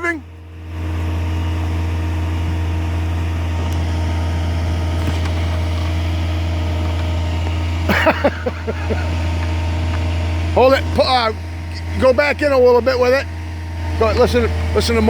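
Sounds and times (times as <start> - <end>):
heavy machinery droning: 0.0 - 15.0.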